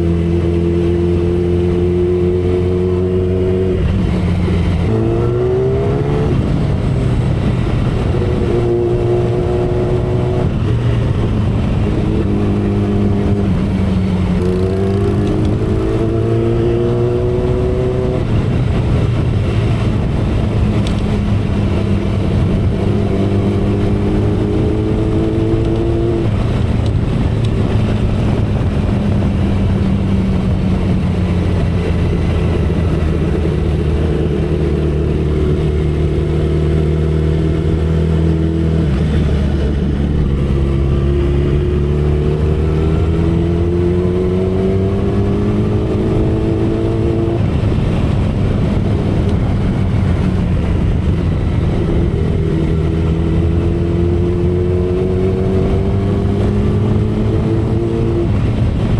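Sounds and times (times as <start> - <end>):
motorcycle engine and exhaust: 0.0 - 58.9
wind and road noise: 0.0 - 58.9.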